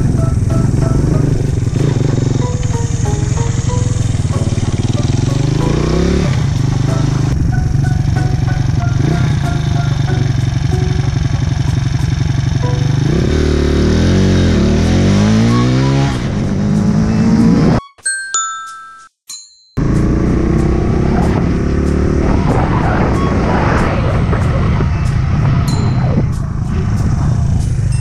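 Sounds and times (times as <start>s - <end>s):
motorbike engine accelerating: 0.0s - 17.8s, 19.8s - 28.0s.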